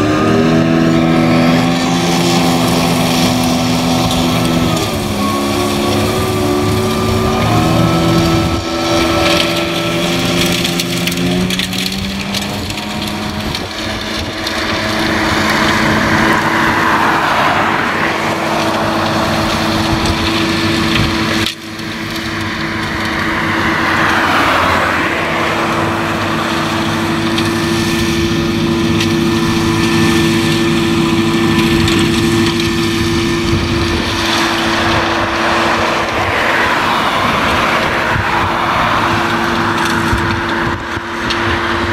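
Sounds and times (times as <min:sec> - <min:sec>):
flail mulcher chopping grass: 0:00.0 - 0:41.9
road vehicles passing: 0:00.0 - 0:41.9
tractor engine running: 0:00.0 - 0:41.9.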